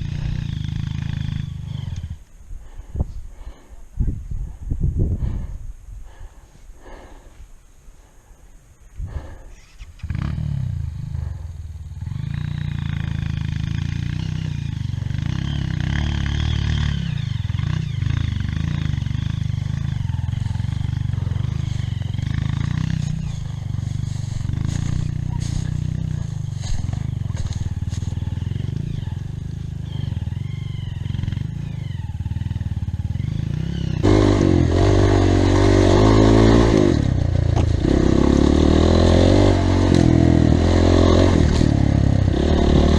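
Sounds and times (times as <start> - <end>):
motorcycle engine revving: 0.0 - 2.8, 9.1 - 42.9.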